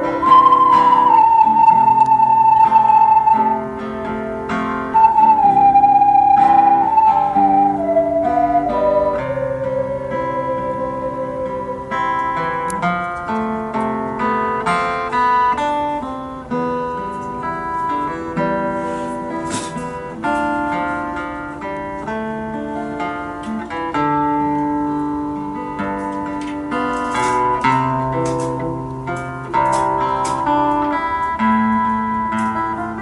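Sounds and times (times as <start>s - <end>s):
plucked guitar music: 0.0s - 33.0s.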